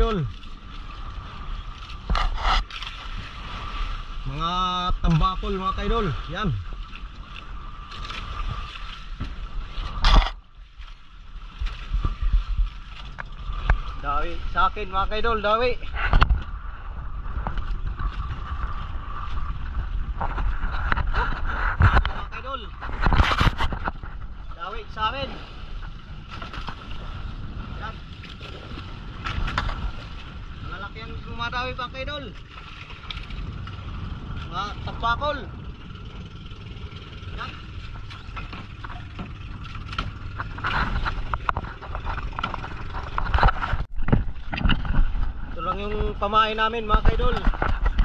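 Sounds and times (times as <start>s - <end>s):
knocks and clatters on boat: 0.0s - 3.6s, 4.7s - 48.0s
boat engine running: 0.0s - 48.0s
water noise: 0.0s - 48.0s
wind: 0.0s - 48.0s.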